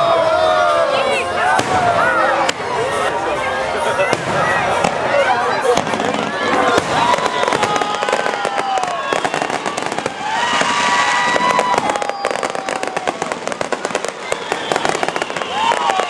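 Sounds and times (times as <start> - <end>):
fireworks crackling and popping: 1.4 - 3.1, 4.0 - 16.0.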